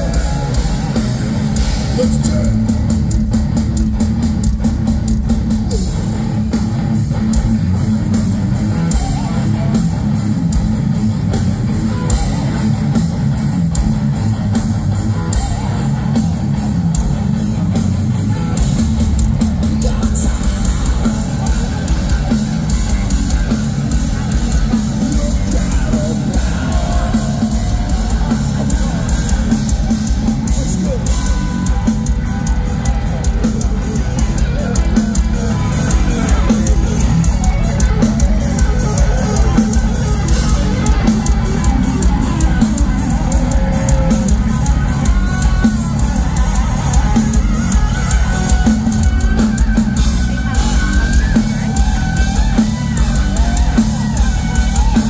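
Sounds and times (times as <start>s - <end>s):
bass guitar: 0.0s - 55.0s
distorted electric guitars: 0.0s - 55.0s
pounding drum kit: 0.0s - 55.0s.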